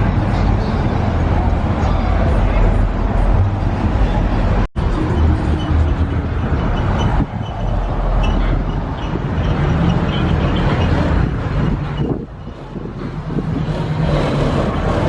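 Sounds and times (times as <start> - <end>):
street noise: 0.0 - 15.0
vehicle engines rumbling: 0.0 - 15.0.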